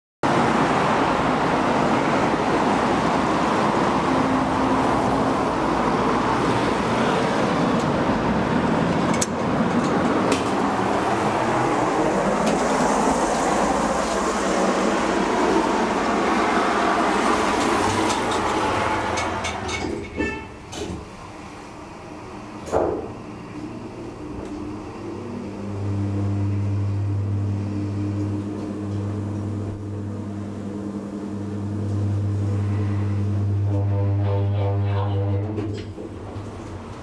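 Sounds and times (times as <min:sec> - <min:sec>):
road traffic noise: 0:00.2 - 0:37.0.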